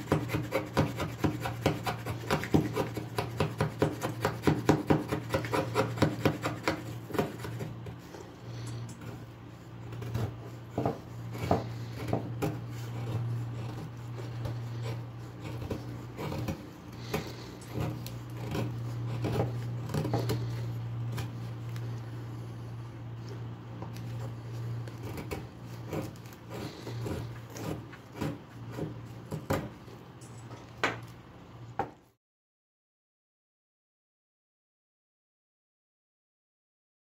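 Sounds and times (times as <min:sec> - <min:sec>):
knife scraping wooden stick: 0:00.0 - 0:30.5
steady low hum: 0:00.0 - 0:31.8.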